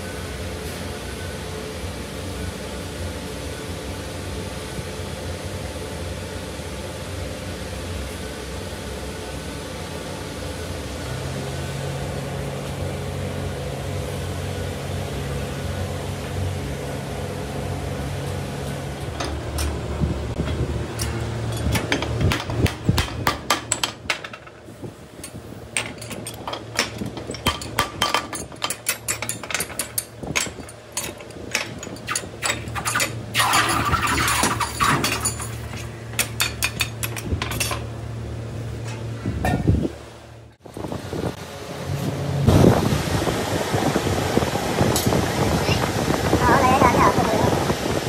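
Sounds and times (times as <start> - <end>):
low machinery hum: 0.0 - 48.0.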